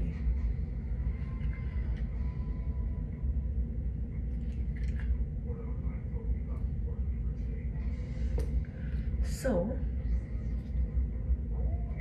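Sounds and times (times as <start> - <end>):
low room rumble: 0.0 - 12.0.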